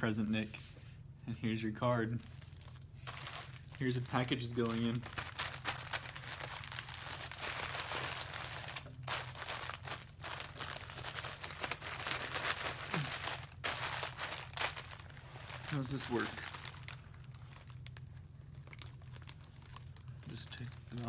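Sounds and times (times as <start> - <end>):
paper envelope rustling: 2.2 - 21.0.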